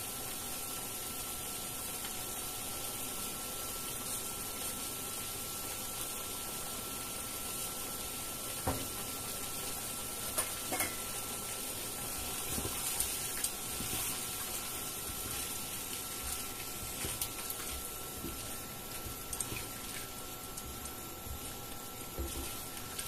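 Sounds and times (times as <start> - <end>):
food simmering with a hiss: 0.0 - 23.0.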